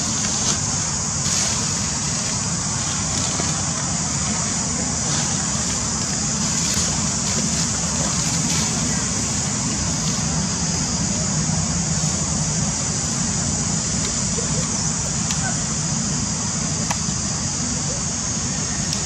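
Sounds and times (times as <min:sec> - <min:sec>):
constant high hiss: 0:00.0 - 0:19.0.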